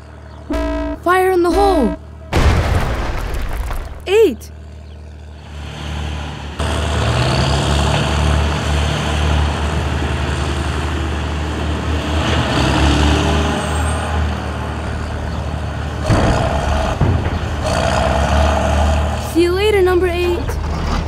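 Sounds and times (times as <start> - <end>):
heavy diesel engine rumbling: 0.0 - 21.0.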